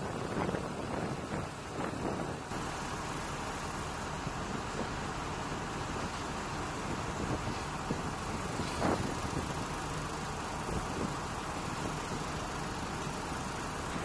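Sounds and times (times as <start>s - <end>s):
wind noise: 0.0s - 2.8s, 4.4s - 14.0s
engine idling: 0.0s - 14.0s.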